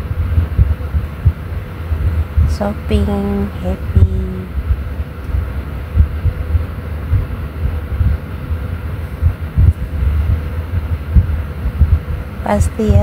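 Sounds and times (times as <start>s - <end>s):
faint steady hum: 0.0s - 13.0s
wind-like microphone noise: 0.0s - 13.0s.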